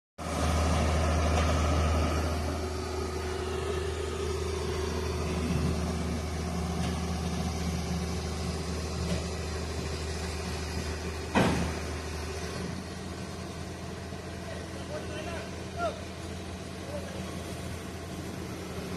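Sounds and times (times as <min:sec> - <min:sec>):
excavator diesel engine running: 0:00.2 - 0:18.9.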